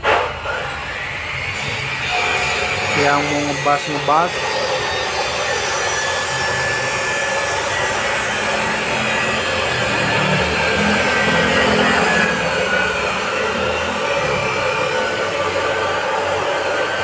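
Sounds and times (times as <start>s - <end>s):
high-pitched whine: 0.0s - 17.0s
mechanical whir and hiss: 0.0s - 17.0s.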